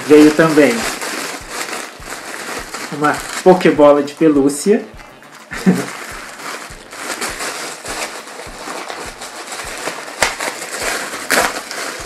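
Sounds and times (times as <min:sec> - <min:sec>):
plastic bag crinkling: 0:00.0 - 0:12.0
soft low thumps: 0:00.8 - 0:11.6.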